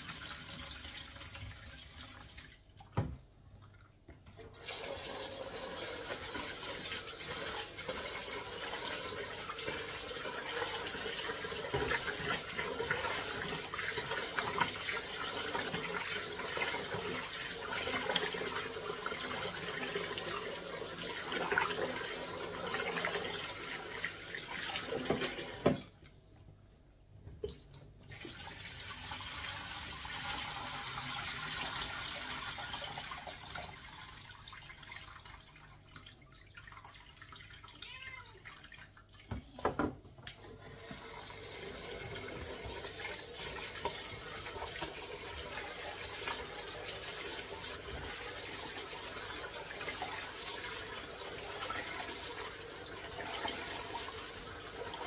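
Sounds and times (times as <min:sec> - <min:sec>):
tap water running into sink: 0:00.0 - 0:03.4, 0:04.0 - 0:26.0, 0:27.4 - 0:55.0.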